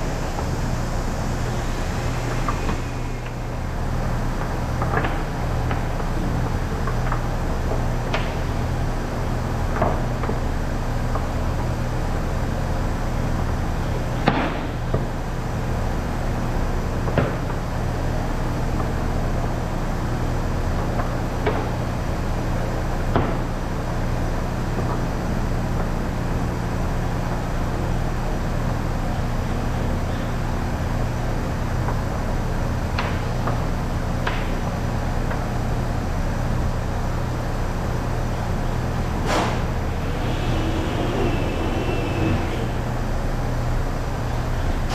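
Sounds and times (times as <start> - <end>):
machinery humming: 0.0 - 44.9.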